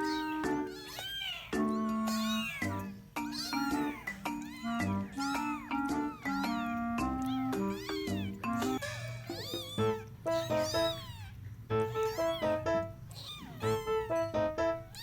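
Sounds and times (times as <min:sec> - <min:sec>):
cat meowing: 0:00.0 - 0:15.0
music with short stepped notes: 0:00.0 - 0:15.0.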